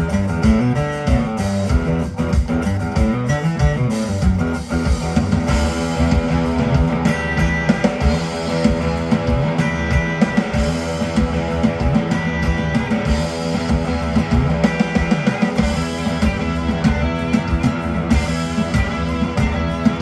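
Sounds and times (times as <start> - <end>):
instrumental rock music: 0.0 - 20.0.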